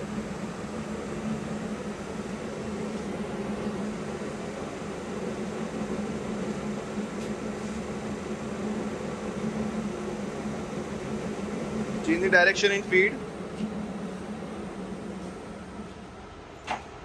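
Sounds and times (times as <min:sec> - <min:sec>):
lathe mechanical hum: 0:00.0 - 0:17.0.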